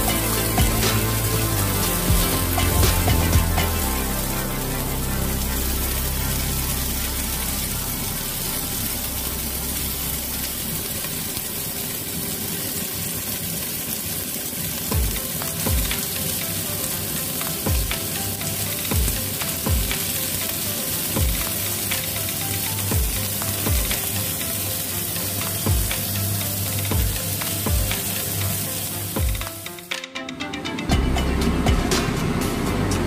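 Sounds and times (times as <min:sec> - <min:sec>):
chicken wings sizzling in oil: 0:00.0 - 0:29.9.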